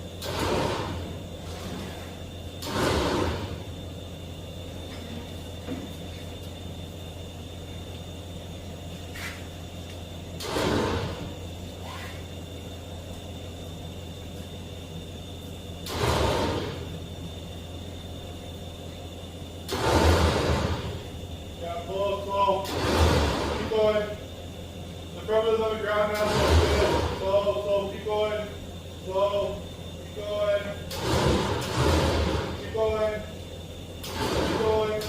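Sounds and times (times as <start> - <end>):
engine idling hum: 0.0 - 35.0.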